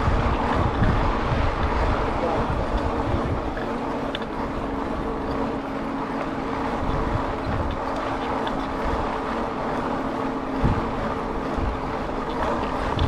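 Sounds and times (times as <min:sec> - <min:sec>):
electric bike hum: 0:00.0 - 0:13.0
wind on microphone: 0:00.0 - 0:13.0.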